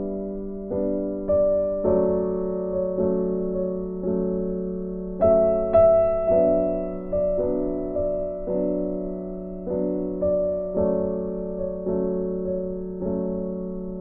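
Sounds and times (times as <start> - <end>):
gentle piano chords: 0.0 - 14.0.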